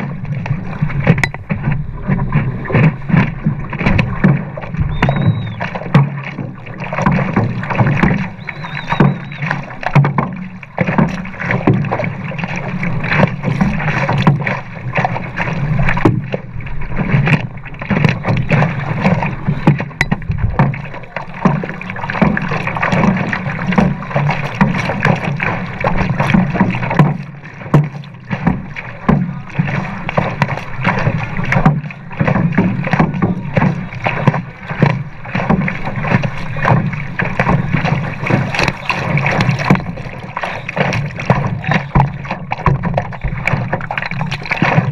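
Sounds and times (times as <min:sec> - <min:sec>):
board slapping water: 0:00.0 - 0:44.9
paddle strokes splashing: 0:00.0 - 0:44.9
water splashing and rushing: 0:00.0 - 0:44.9.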